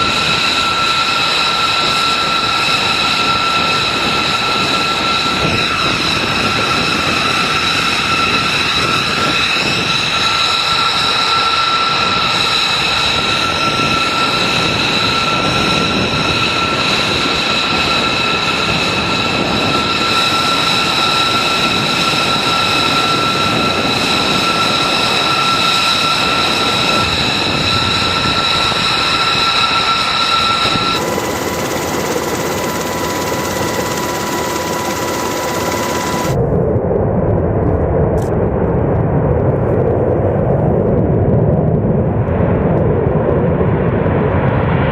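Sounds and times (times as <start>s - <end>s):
jet engines whining: 0.0s - 38.7s.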